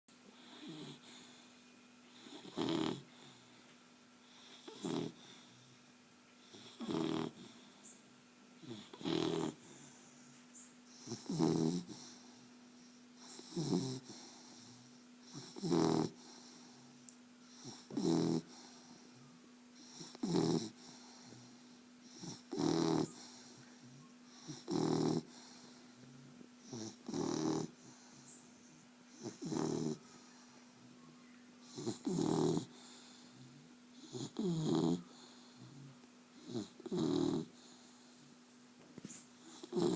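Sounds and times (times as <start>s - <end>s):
faint steady hum: 0.1s - 39.9s
puppy snoring: 0.3s - 1.5s, 2.1s - 3.5s, 4.2s - 5.8s, 6.4s - 8.0s, 8.6s - 10.3s, 10.9s - 19.2s, 19.8s - 30.6s, 31.6s - 38.3s, 39.1s - 39.9s.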